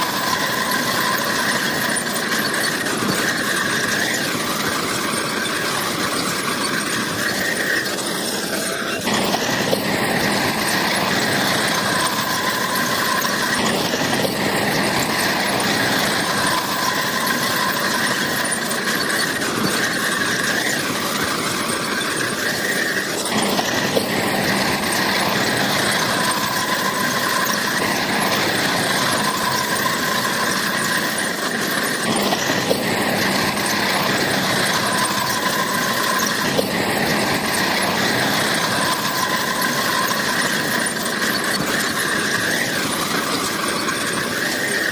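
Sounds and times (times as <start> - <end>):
crawler tracks squealing: 0.0 - 44.9
diesel engine running: 0.0 - 44.9.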